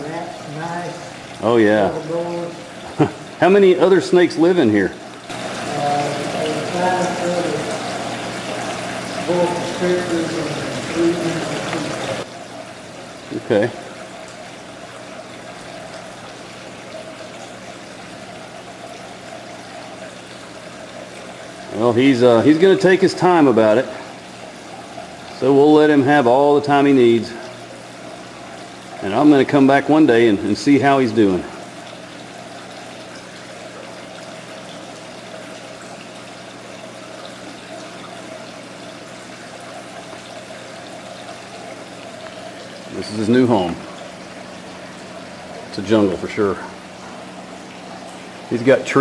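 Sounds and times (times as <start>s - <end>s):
water trickling: 0.0s - 49.0s.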